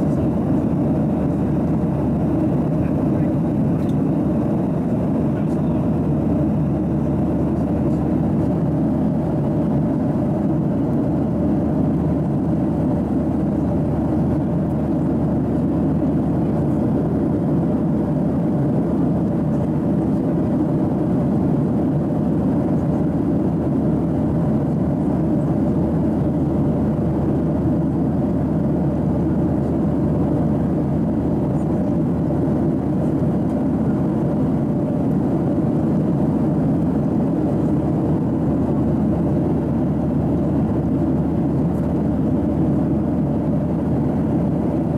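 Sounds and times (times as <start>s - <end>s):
airplane cabin engine drone: 0.0s - 44.9s.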